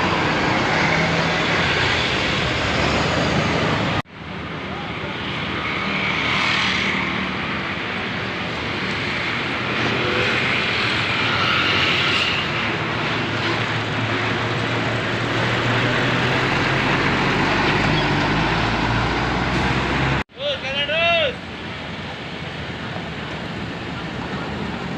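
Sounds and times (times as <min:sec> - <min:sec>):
outdoor noise: 0:00.0 - 0:24.9.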